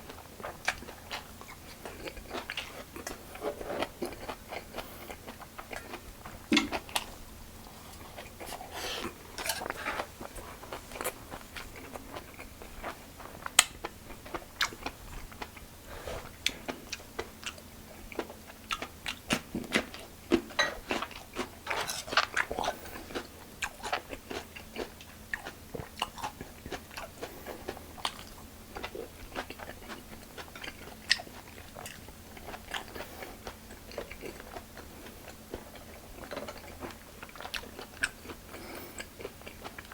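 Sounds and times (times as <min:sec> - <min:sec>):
crunchy chewing and biting: 0:00.0 - 0:39.9.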